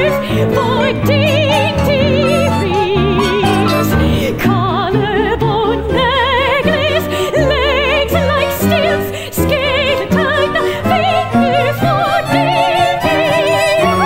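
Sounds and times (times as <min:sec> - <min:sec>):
operatic soprano singing: 0:00.0 - 0:14.0
small instrumental ensemble: 0:00.0 - 0:14.0.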